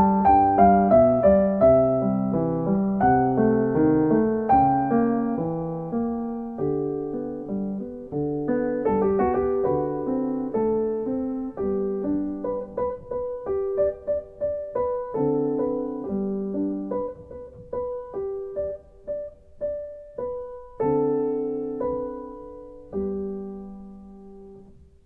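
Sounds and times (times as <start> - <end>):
solo piano music: 0.0 - 25.0.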